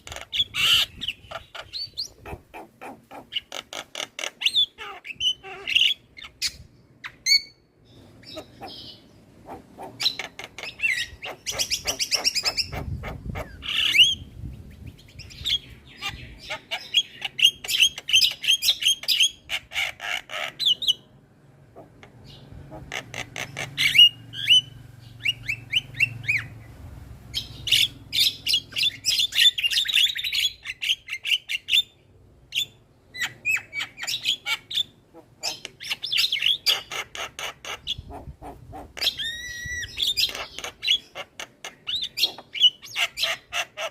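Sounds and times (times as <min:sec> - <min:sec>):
bird singing chattering song: 0:00.0 - 0:21.1, 0:21.8 - 0:43.9.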